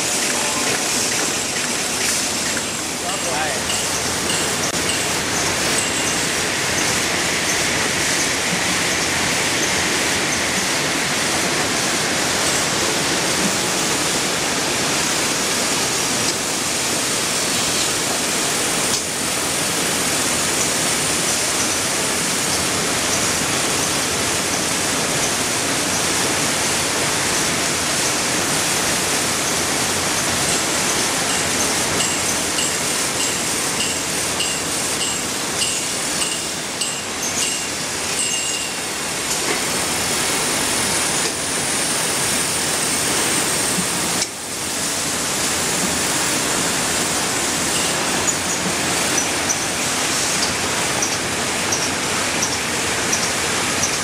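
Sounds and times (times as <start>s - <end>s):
conveyor running: 0.0s - 54.0s
rewinding machine: 0.0s - 54.0s.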